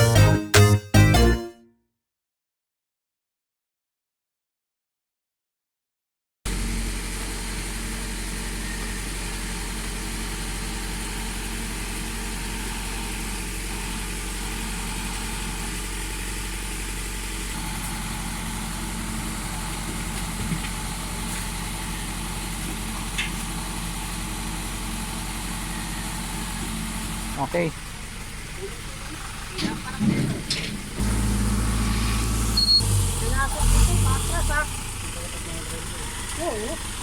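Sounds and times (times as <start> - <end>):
vehicle engine idling: 6.5 - 37.0.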